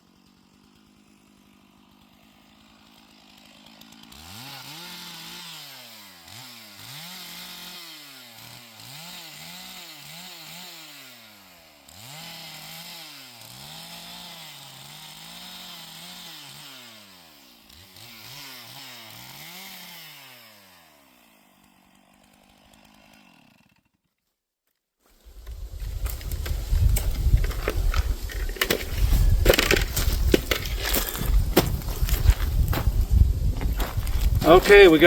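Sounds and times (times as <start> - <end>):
chainsaw cutting wood: 0.0 - 24.3, 25.1 - 35.0.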